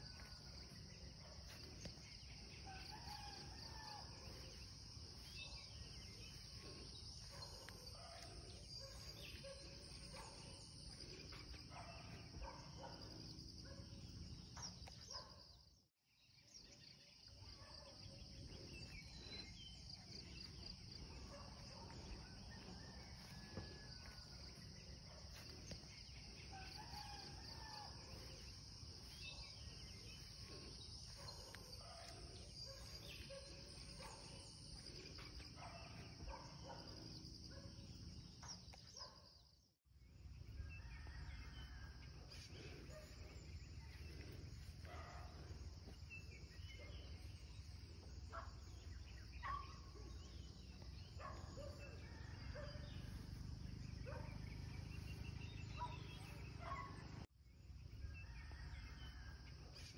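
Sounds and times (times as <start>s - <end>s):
insect chorus: 0.0s - 15.6s, 16.4s - 39.2s, 40.5s - 59.9s.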